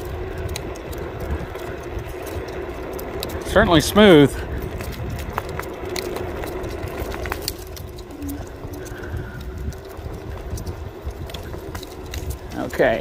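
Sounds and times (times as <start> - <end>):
electric motor hum: 0.0 - 13.0
scooter clicks and rattles: 0.0 - 13.0
tire rumble: 0.0 - 13.0
wind on microphone: 0.0 - 13.0.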